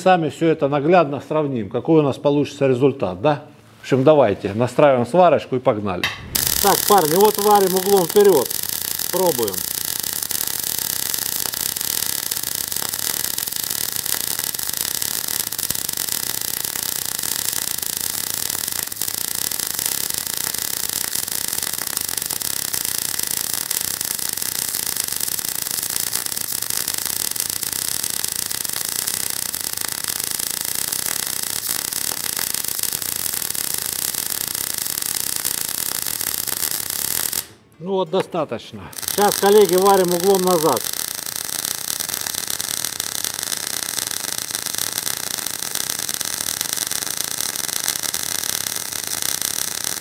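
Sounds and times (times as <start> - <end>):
welding arc crackling: 6.0 - 37.6, 38.9 - 50.0.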